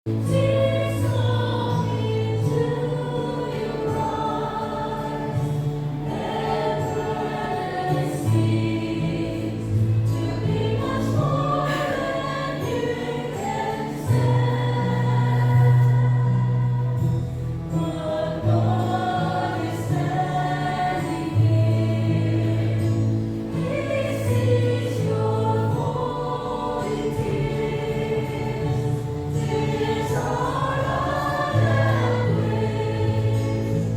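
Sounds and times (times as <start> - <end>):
choir singing a hymn: 0.1 - 33.9.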